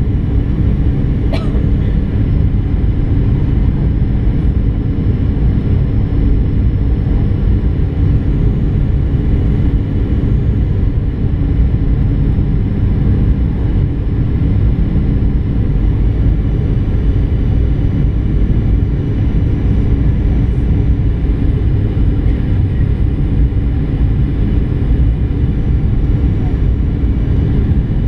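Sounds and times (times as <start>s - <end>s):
low rumble of airflow and engines: 0.0s - 28.0s.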